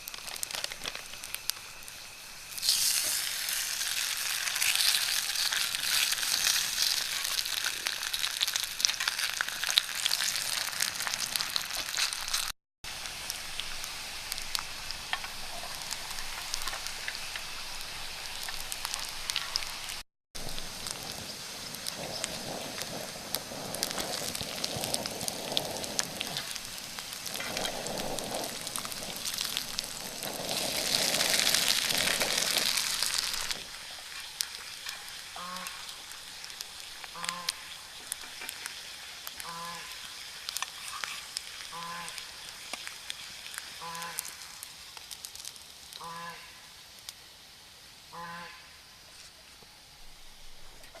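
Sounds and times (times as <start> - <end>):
food sizzling in a pan: 0.0 - 48.0
loud hiss: 0.0 - 50.8.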